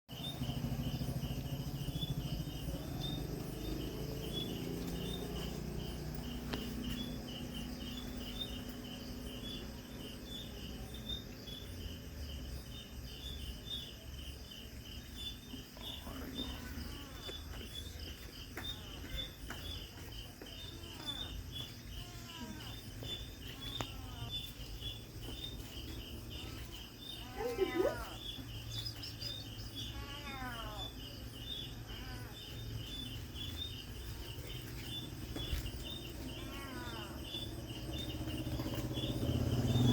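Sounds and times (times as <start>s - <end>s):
insects chirping: 0.1s - 39.9s.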